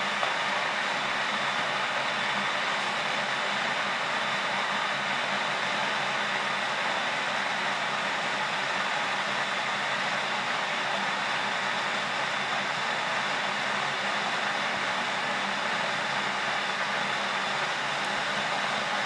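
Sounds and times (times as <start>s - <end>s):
kettle heating water hissing: 0.0s - 19.0s.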